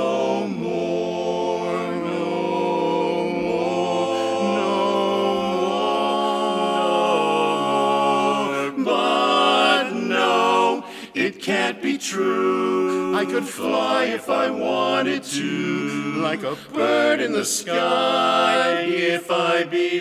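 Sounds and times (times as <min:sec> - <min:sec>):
male quartet singing a cappella: 0:00.0 - 0:20.0.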